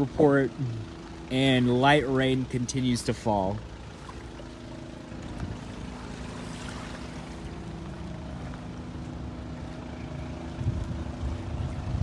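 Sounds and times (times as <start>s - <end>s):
engine humming: 0.0s - 12.0s
outdoor rumble: 0.0s - 12.0s.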